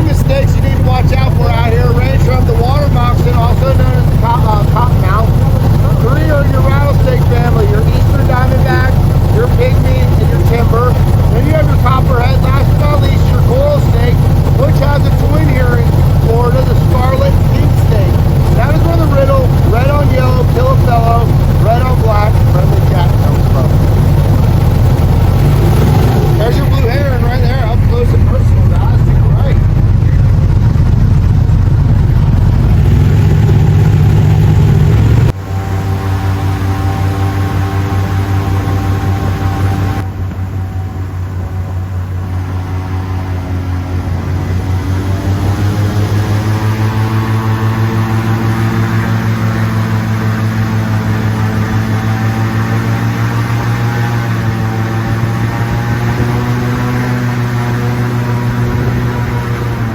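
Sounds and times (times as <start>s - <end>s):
airboat engine and propeller: 0.0s - 59.9s.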